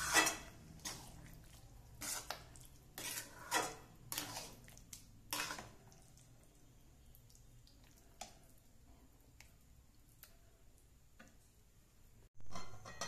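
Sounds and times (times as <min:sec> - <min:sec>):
metal spoon stirring pasta in pan: 0:00.0 - 0:10.5.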